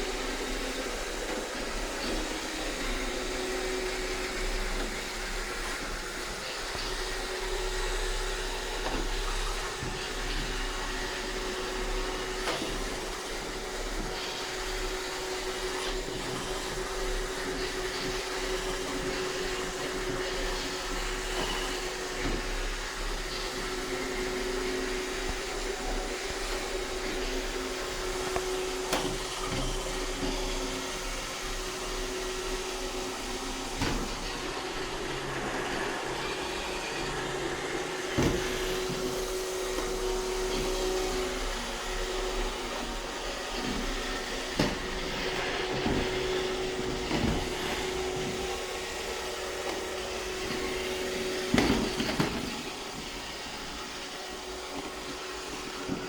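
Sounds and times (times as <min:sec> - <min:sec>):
robot vacuum humming: 0:00.0 - 0:56.0.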